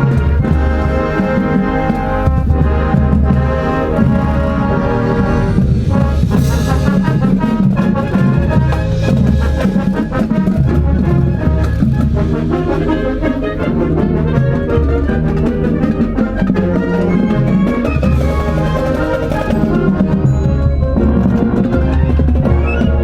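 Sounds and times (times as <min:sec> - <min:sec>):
drums and percussion: 0:00.0 - 0:23.0
wind band playing: 0:00.0 - 0:23.0.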